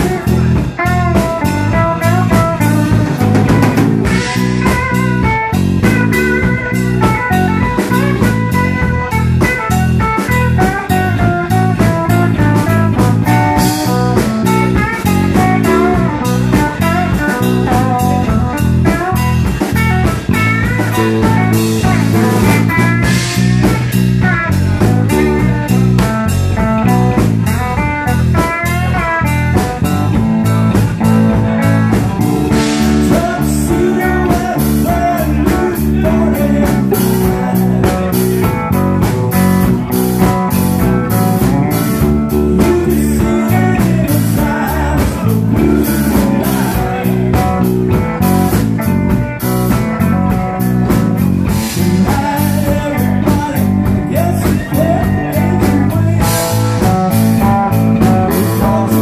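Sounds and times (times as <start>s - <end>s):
drum kit: 0.0s - 59.0s
electric bass: 0.0s - 59.0s
electric guitar lead with bent notes: 0.0s - 59.0s.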